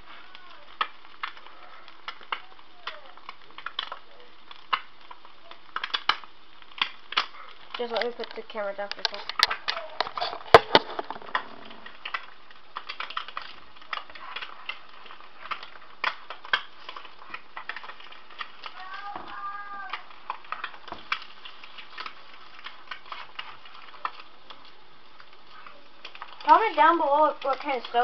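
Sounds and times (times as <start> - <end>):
eggs sizzling in a pan: 0.0 - 28.0
fat popping and crackling: 0.0 - 28.0.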